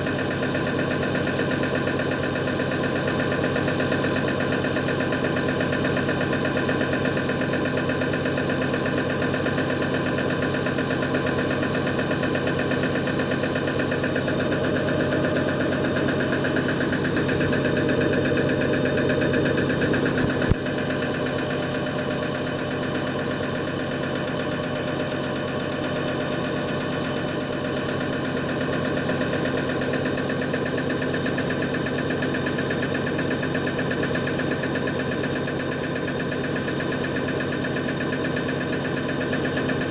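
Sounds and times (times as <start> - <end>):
test bench motor humming: 0.0 - 39.9.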